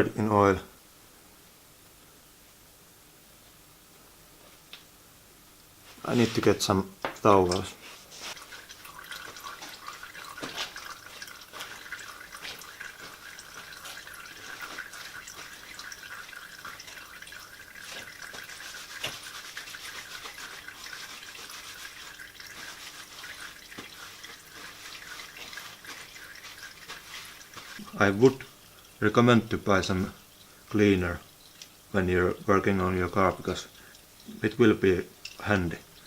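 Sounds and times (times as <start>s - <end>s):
oil trickling into drain pan: 7.1s - 36.0s.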